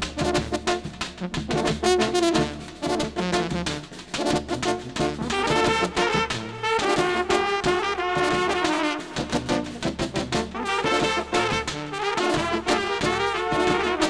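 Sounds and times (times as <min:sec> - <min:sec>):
brass band playing dance music: 0:00.0 - 0:14.0.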